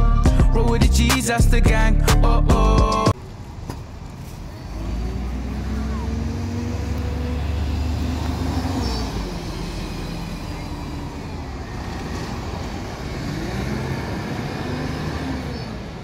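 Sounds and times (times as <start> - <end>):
bus engine droning: 2.6 - 16.0
road traffic: 2.8 - 16.0.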